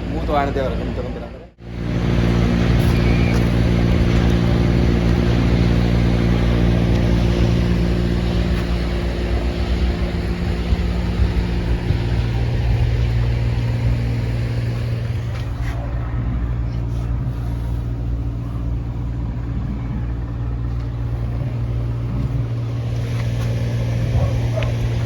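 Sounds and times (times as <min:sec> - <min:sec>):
large machine running: 0:00.0 - 0:25.0.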